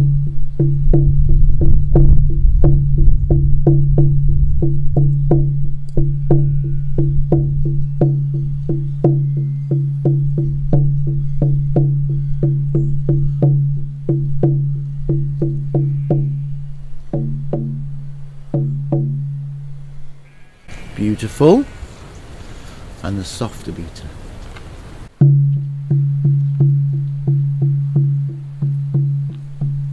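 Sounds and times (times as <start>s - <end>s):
frame drum deep booming beats: 0.0s - 19.9s, 25.2s - 29.9s.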